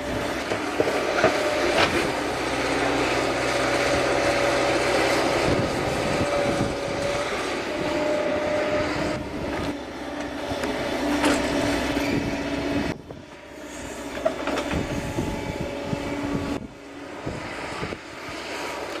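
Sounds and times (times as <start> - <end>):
excavator diesel engine: 0.0 - 19.0
hydraulics whirring: 0.0 - 19.0.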